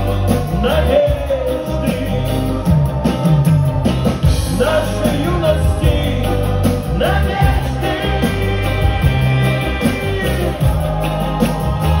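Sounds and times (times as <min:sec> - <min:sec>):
pop-rock band playing: 0:00.0 - 0:12.0.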